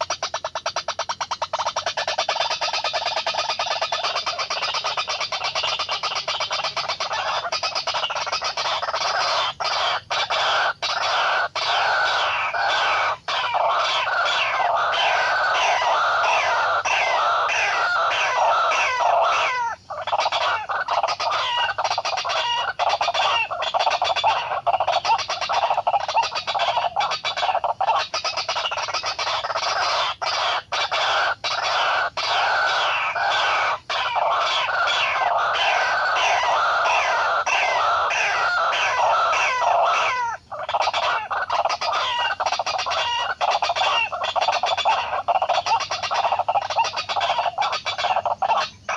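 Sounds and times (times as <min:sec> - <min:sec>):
waterhen calling: 0:00.0 - 0:48.9.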